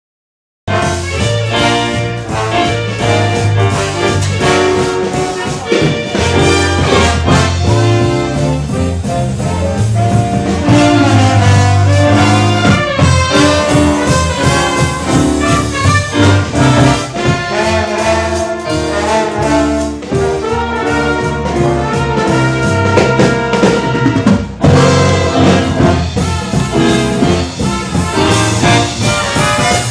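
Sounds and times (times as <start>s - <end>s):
brass band playing: 0.7s - 29.9s
steady drum beat: 0.7s - 29.9s.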